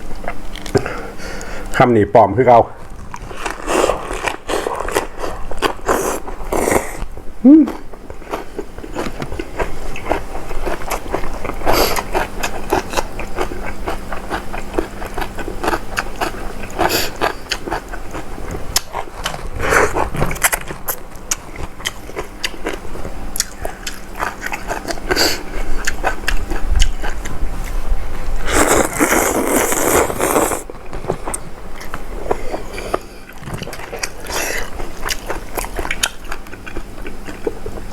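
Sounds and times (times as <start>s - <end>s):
person chewing and crunching: 2.8s - 37.9s.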